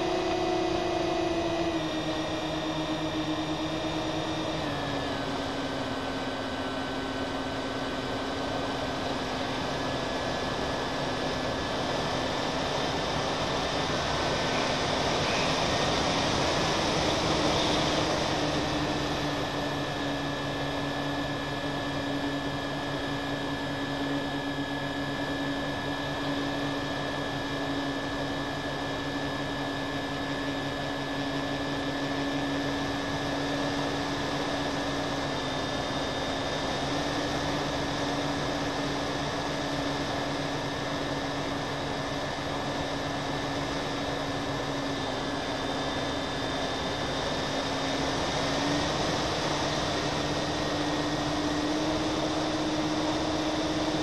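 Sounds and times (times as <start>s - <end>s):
propeller motors humming: 0.0s - 54.0s.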